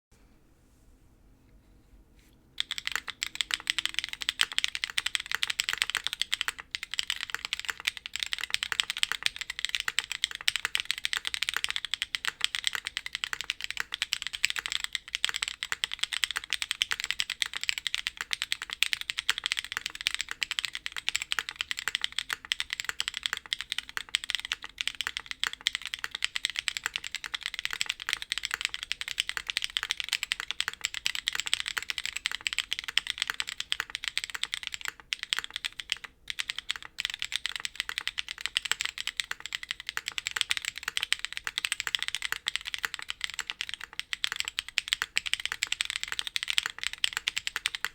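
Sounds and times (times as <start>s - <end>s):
mechanical keyboard key clacks: 2.6s - 47.9s.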